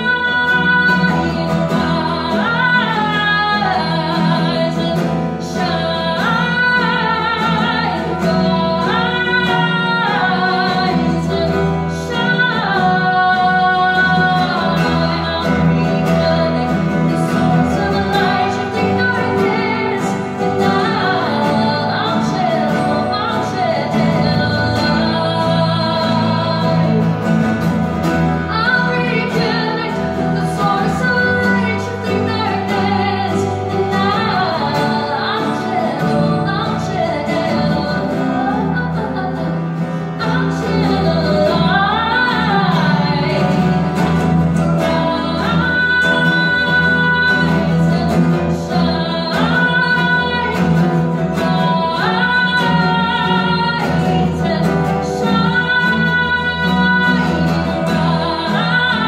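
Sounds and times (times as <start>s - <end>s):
acoustic guitars: 0.0s - 59.0s
woman singing: 0.0s - 59.0s.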